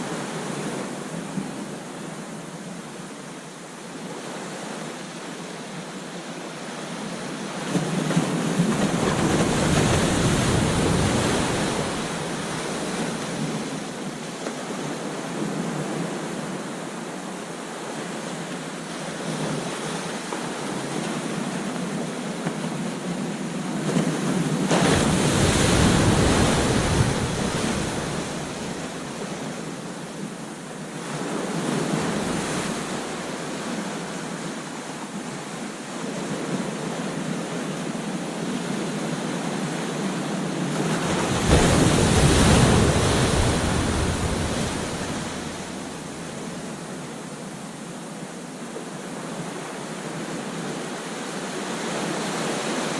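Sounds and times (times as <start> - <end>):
big waves crashing: 0.0 - 52.9
ocean surf on a beach: 0.0 - 52.9.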